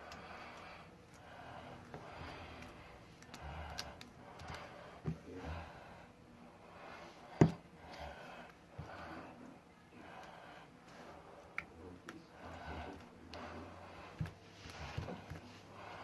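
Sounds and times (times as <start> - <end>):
heavy breathing: 0.0 - 16.0.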